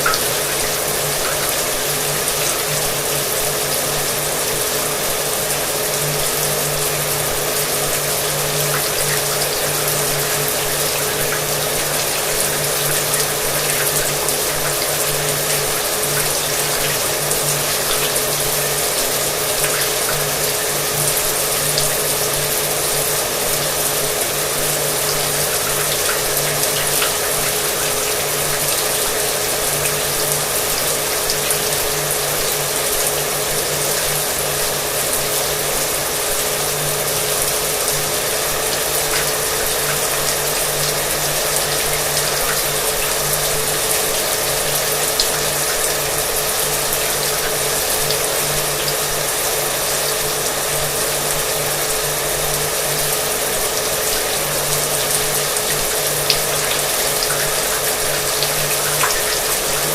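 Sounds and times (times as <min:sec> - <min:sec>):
shower water running: 0:00.0 - 0:59.9.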